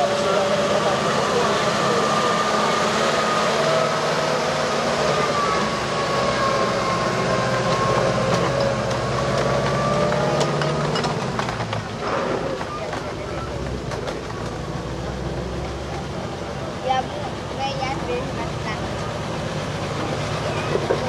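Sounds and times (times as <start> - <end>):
truck engine running slowly: 0.0 - 21.0.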